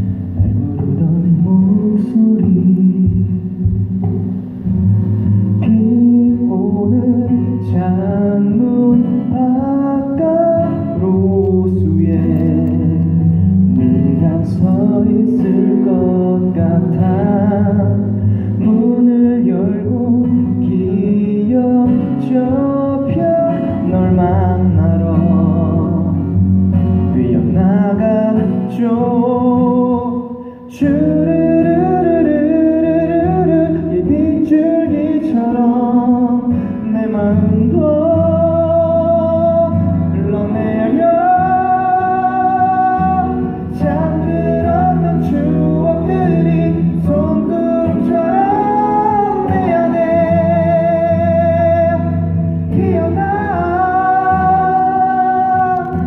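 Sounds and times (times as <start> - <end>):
acoustic guitar: 0.0 - 56.0
person singing slow song: 0.0 - 56.0.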